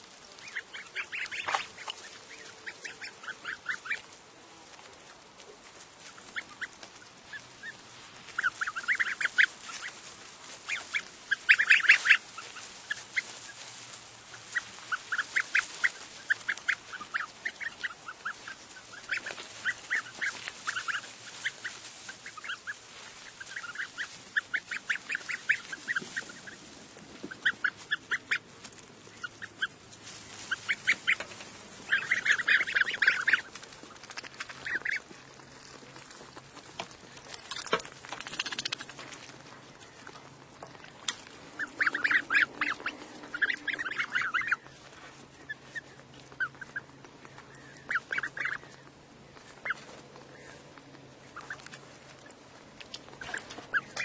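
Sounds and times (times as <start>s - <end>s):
goslings cheeping: 0.0s - 4.1s, 6.0s - 54.0s.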